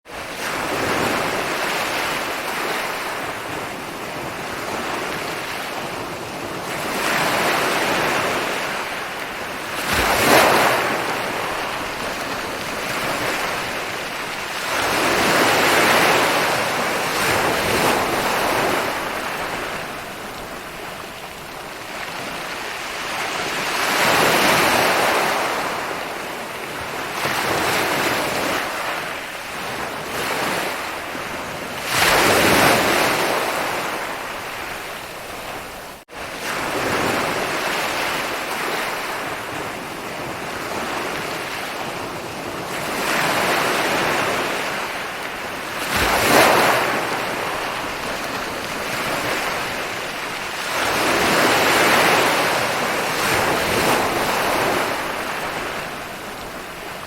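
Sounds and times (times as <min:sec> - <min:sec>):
ocean waves breaking on beach: 0:00.1 - 0:57.0.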